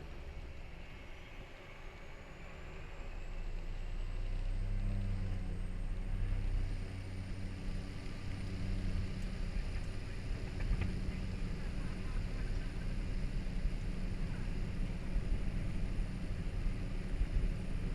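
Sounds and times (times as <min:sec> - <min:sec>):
turboprop engine drone: 0:00.0 - 0:17.9.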